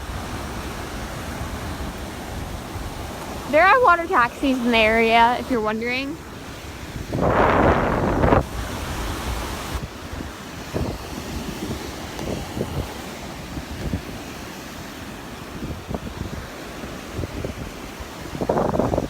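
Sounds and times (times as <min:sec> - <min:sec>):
small waves breaking: 0:00.0 - 0:19.0
wind buffeting microphone: 0:00.0 - 0:19.0.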